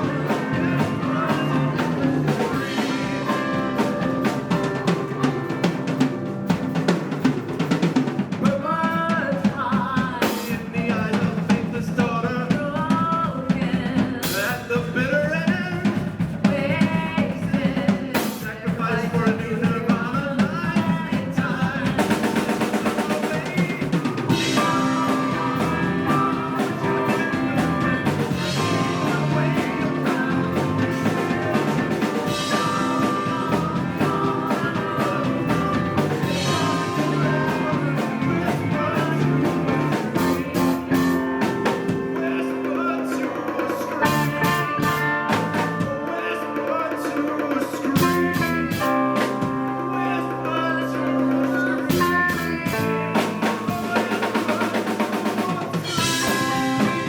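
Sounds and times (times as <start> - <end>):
drum kit beat: 0.0 - 57.0
lead vocal singing: 0.0 - 57.0
live rock band playing: 0.0 - 57.0.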